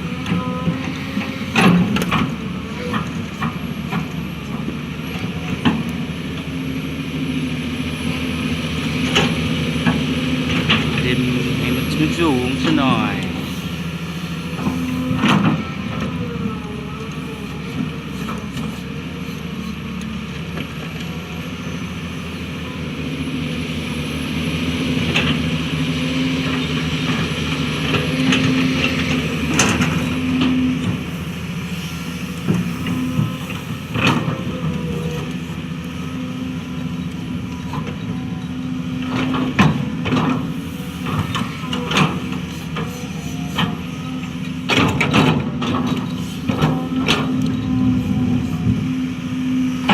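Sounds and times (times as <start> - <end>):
excavator diesel engine: 0.0 - 49.9.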